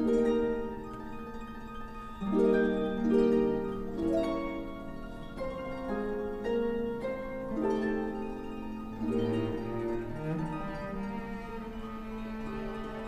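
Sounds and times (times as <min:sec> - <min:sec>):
harp melody: 0:00.0 - 0:13.0.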